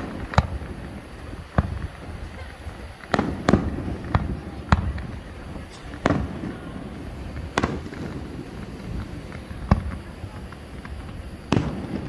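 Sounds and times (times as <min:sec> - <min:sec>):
faint firework pops: 0:00.0 - 0:12.0
firework shells bursting: 0:00.0 - 0:12.0.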